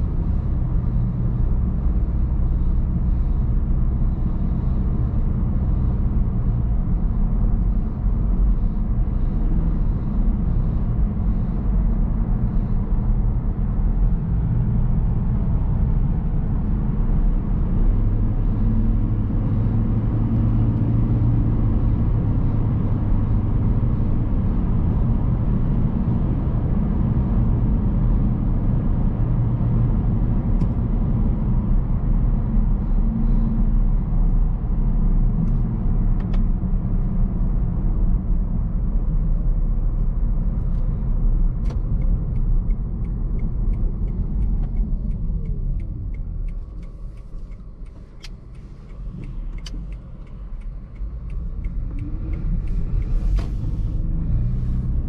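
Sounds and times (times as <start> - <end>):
car engine humming: 0.0 - 55.0.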